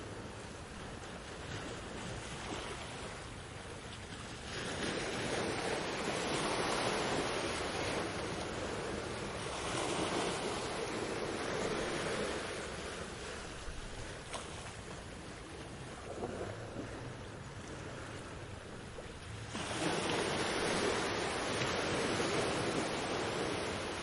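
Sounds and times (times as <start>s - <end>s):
ocean waves on a beach: 0.0s - 24.0s.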